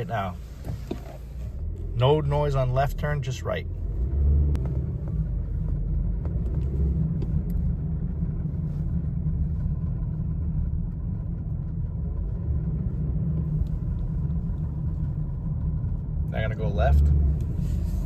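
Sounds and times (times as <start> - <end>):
car rumbling while moving: 0.0 - 18.0.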